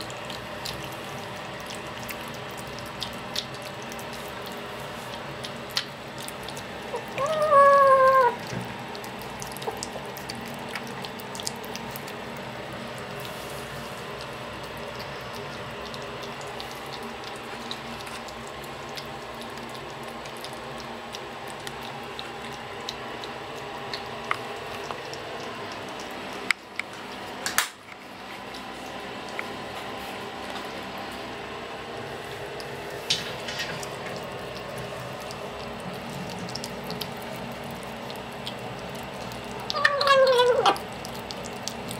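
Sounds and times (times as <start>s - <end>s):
cats chewing and crunching kibble: 0.0s - 41.9s.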